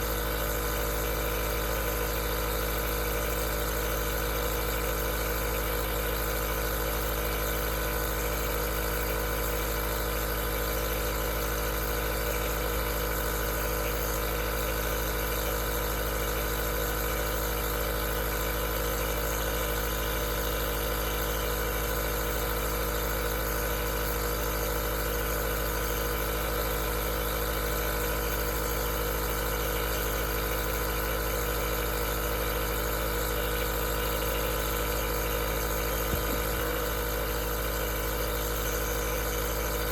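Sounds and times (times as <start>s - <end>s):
compressor humming: 0.0s - 39.9s.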